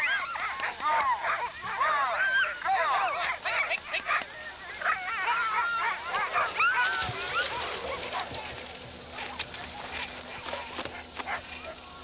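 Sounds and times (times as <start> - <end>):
sled dogs barking and howling: 0.0 - 12.0.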